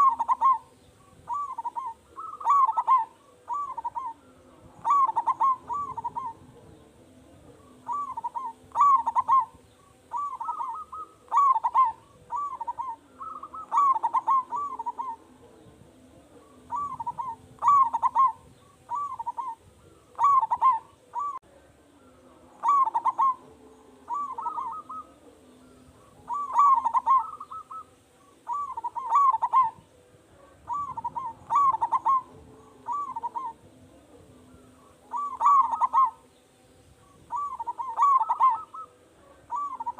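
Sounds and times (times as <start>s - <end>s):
dove cooing: 0.0s - 36.4s, 37.0s - 39.9s.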